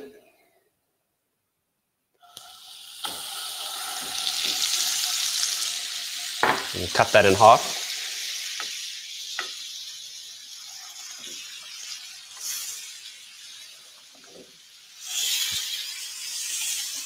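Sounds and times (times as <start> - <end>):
butter sizzling in a frying pan: 2.2 - 17.0.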